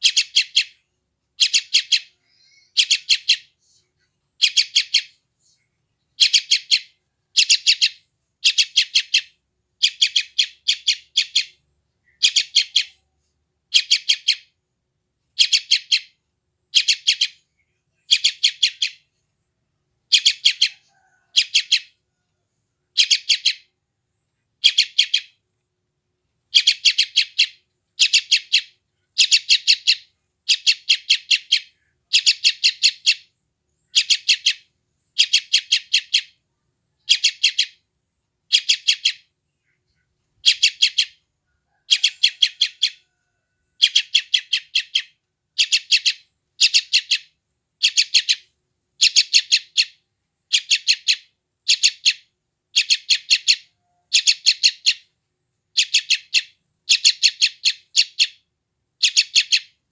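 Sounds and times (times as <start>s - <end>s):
bird chick shrill chirps: 0.0s - 0.8s, 1.4s - 3.6s, 4.4s - 5.2s, 6.2s - 13.1s, 13.7s - 14.5s, 15.3s - 17.4s, 18.1s - 19.1s, 20.1s - 22.2s, 22.9s - 23.7s, 24.6s - 25.4s, 26.5s - 33.3s, 33.9s - 36.4s, 37.0s - 37.8s, 38.5s - 39.3s, 40.4s - 59.8s.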